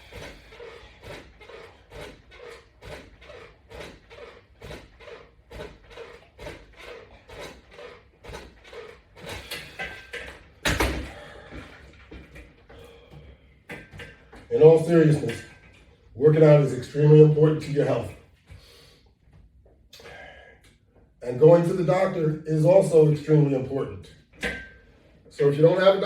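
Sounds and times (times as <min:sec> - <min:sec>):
rhythmic exercise sounds: 0:00.0 - 0:23.1.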